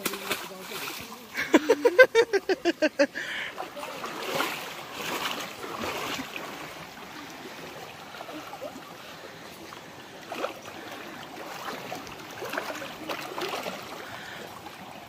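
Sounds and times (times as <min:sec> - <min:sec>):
light splashing: 0:00.0 - 0:02.4, 0:03.2 - 0:15.0
water flowing: 0:00.0 - 0:15.0.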